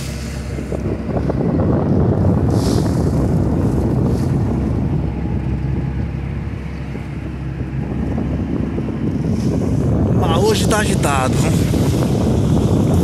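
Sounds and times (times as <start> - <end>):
river water slapping and splashing: 0.0 - 13.0
strong wind buffeting microphone: 0.0 - 13.0.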